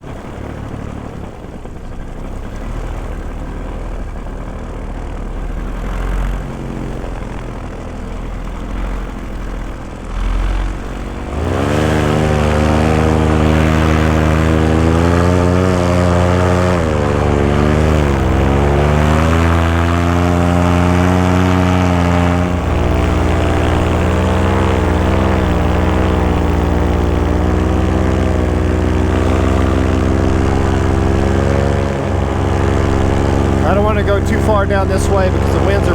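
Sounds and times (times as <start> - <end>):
paramotor engine and propeller: 0.0 - 35.9.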